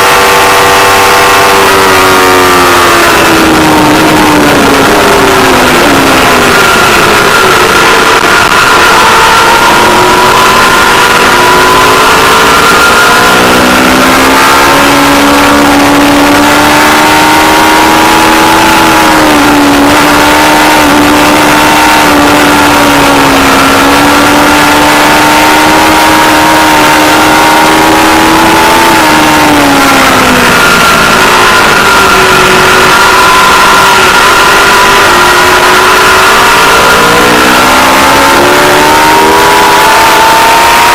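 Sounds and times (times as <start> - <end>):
motorcycle engine at high revs: 0.0 - 40.9
wind noise: 0.0 - 40.9.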